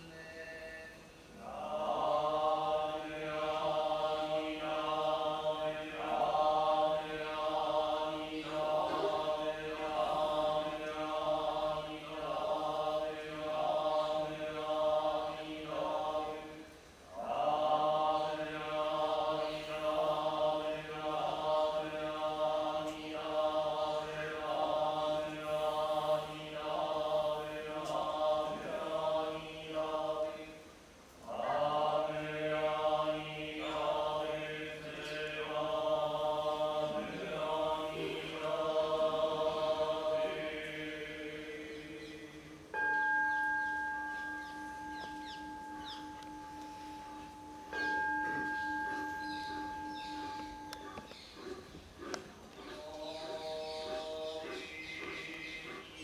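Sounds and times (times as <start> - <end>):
monks chanting in unison: 0.0 - 56.0.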